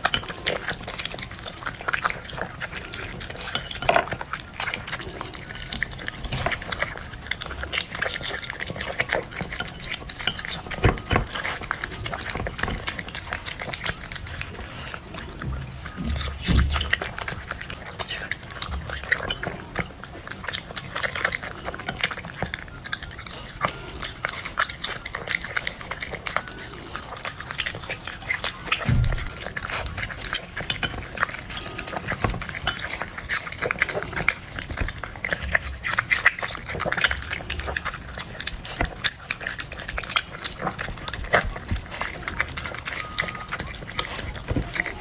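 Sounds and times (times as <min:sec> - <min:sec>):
dog chewing and lapping food: 0:00.0 - 0:45.0.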